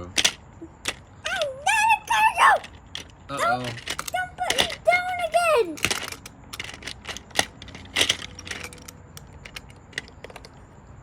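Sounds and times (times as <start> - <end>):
toy train pieces clattering: 0.0 - 10.6.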